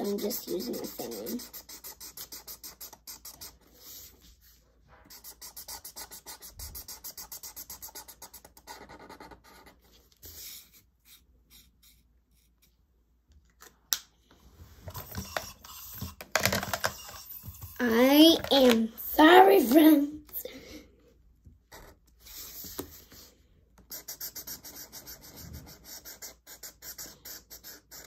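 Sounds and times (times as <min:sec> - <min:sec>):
marker scratching on paper: 0:00.0 - 0:12.8, 0:14.8 - 0:20.0, 0:21.7 - 0:28.0.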